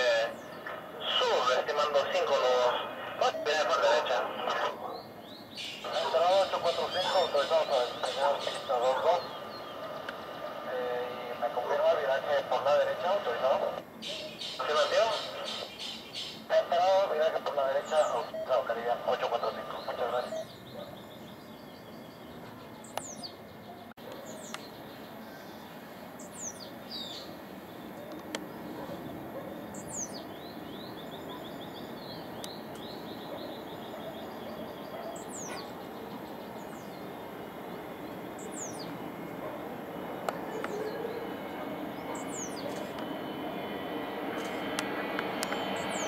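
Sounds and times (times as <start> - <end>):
distant jet engine rush: 0.0 - 46.0.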